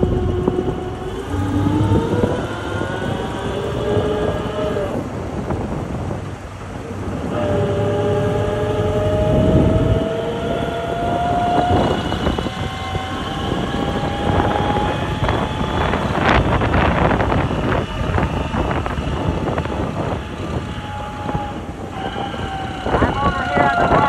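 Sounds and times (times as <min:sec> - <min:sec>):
vehicle running rumble: 0:00.0 - 0:24.0
wind on microphone: 0:00.0 - 0:24.0.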